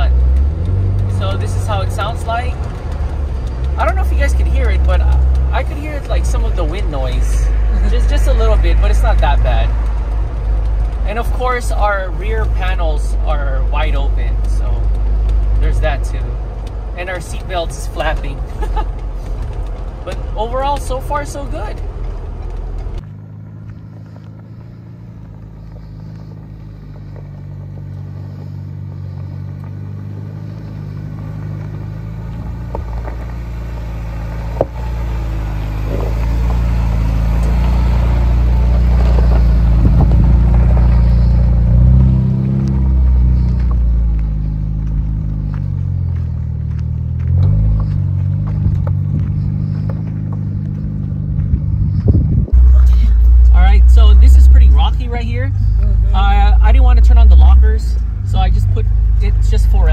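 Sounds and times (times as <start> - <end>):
engine and exhaust revving: 0.0 - 59.9.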